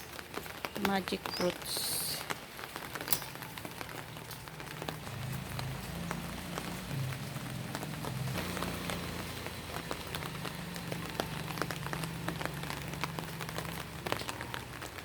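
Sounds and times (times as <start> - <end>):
rain falling steadily: 0.0 - 15.0
raindrops ticking sharply: 0.0 - 15.0.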